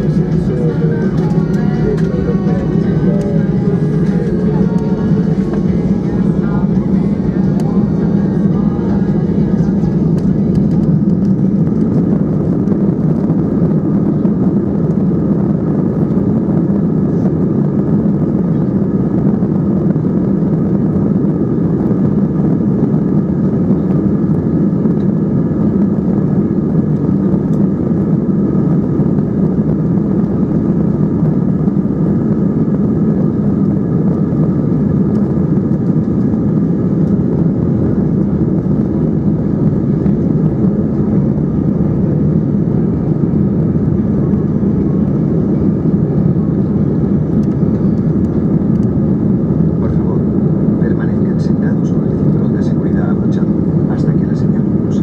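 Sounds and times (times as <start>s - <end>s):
jet engines roaring in cabin: 0.0s - 55.0s.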